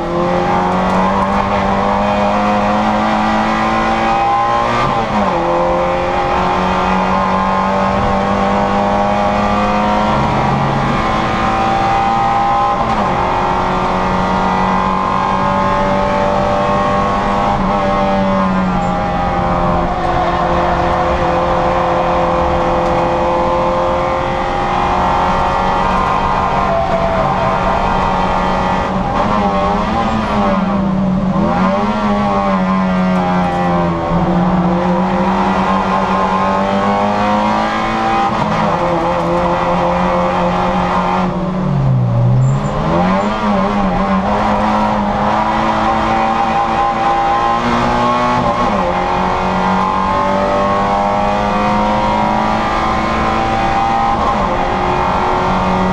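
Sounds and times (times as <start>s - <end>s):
car engine at high revs: 0.0s - 55.9s.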